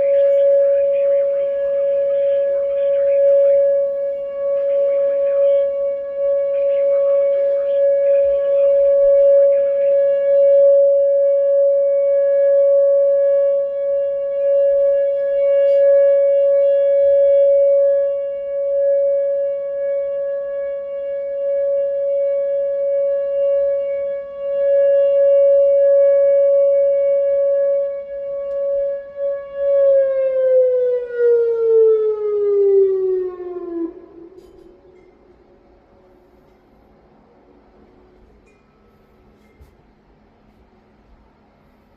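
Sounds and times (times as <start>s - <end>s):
outdoor warning siren: 0.0s - 41.9s.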